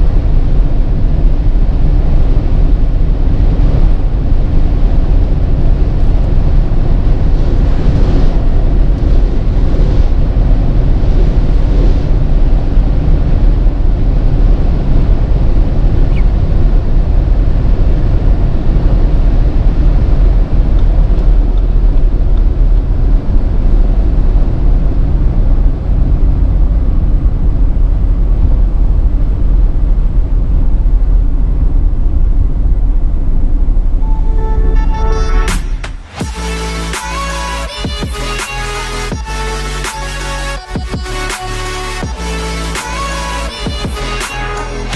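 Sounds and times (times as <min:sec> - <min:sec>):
car engine running: 0:00.0 - 0:44.9
wind noise: 0:00.0 - 0:44.9.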